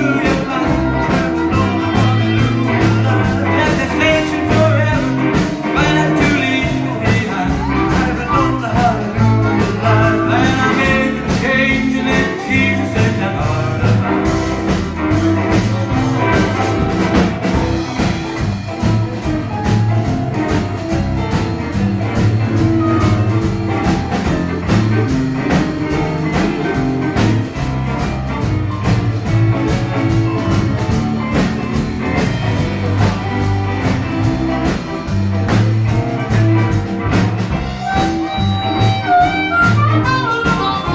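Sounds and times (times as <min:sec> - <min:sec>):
live blues-rock band: 0:00.0 - 0:40.9.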